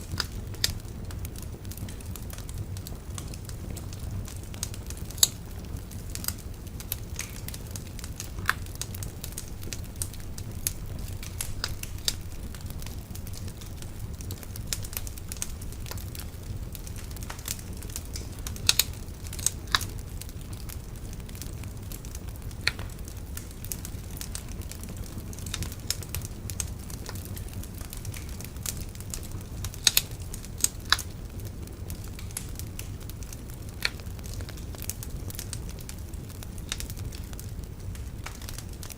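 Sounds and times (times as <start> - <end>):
bonfire flames rumbling: 0.0 - 38.9
fire crackling and popping: 0.0 - 38.9.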